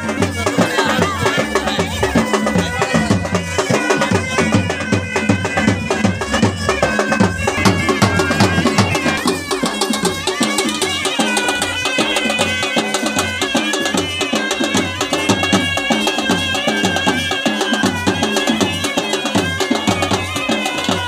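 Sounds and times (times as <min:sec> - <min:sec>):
drums beating: 0:00.0 - 0:21.0
lively folk music: 0:00.0 - 0:21.0.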